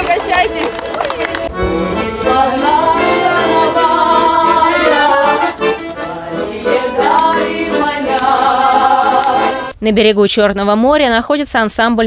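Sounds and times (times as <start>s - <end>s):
accordion playing folk dance tune: 0.0s - 9.7s.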